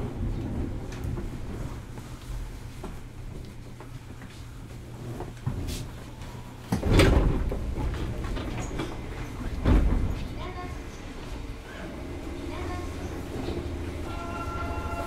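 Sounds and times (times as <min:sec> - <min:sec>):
train car low hum: 0:00.0 - 0:15.0.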